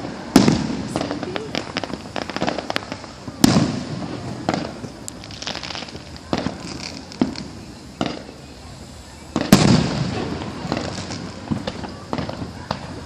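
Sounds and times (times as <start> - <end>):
firework bangs: 0.0 - 13.0
light firework crackling: 0.0 - 13.0.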